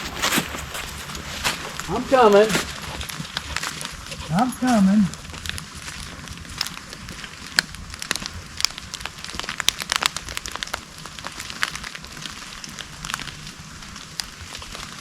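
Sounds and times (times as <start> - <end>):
low rumble: 0.0 - 14.6
footsteps through dry leaves: 0.0 - 15.0.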